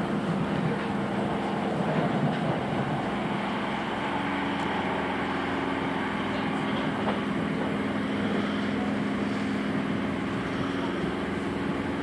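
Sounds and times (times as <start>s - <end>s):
steady low hum: 0.0s - 12.0s
train wheels rumbling on rails: 0.0s - 12.0s.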